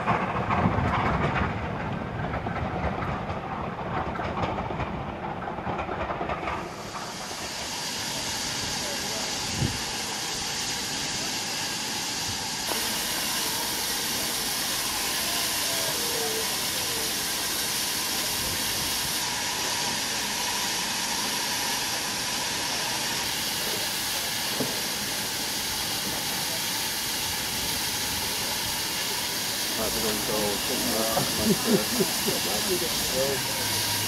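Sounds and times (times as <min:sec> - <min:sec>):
steam locomotive hissing: 0:03.9 - 0:34.0.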